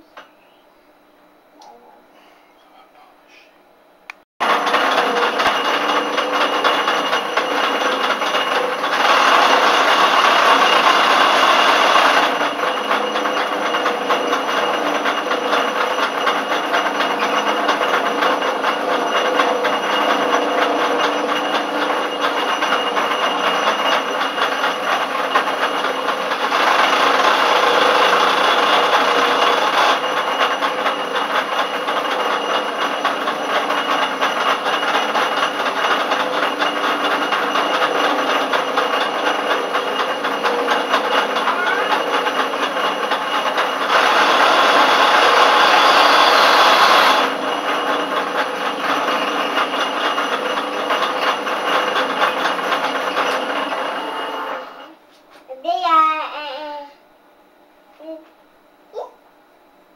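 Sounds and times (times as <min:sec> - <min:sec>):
lathe running: 0:04.1 - 0:55.1.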